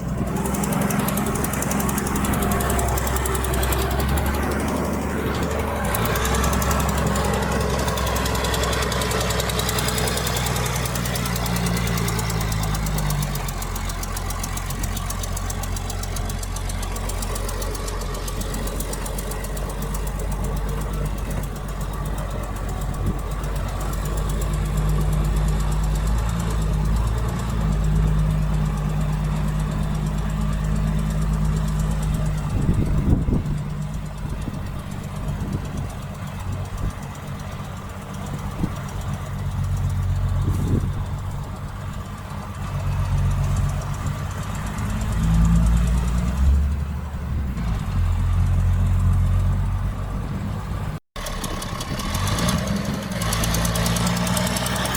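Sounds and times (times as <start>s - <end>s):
loud clatter: 0.0s - 49.7s, 51.2s - 54.9s
diesel machinery engine: 0.0s - 54.9s.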